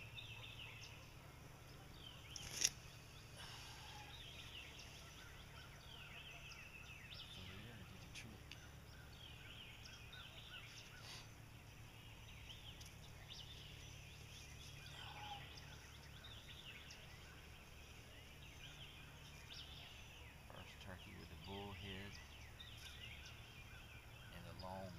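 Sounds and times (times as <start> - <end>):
songbirds chirping and trilling: 0.0 - 24.9.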